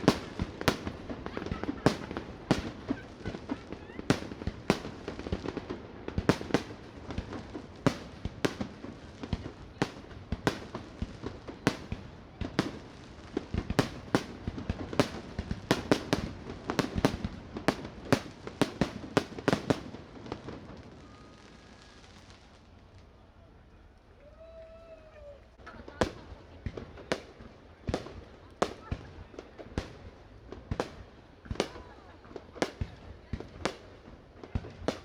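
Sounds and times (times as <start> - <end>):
fireworks bangs: 0.0 - 22.6, 25.7 - 35.0.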